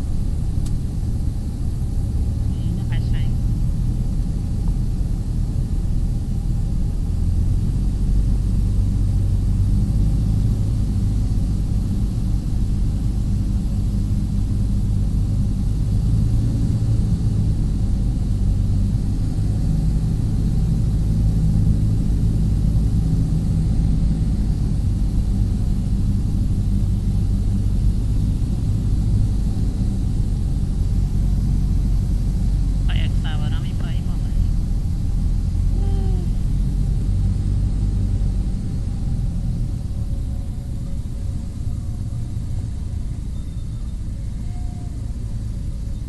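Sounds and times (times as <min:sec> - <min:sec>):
propeller plane engine drone: 0:00.0 - 0:46.0.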